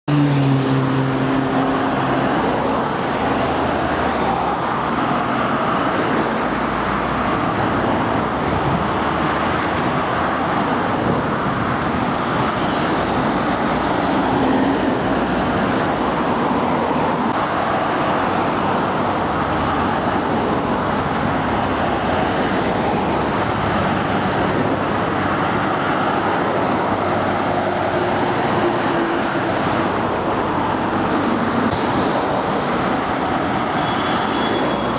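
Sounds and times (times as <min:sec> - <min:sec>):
steady traffic hum: 0:00.0 - 0:34.9.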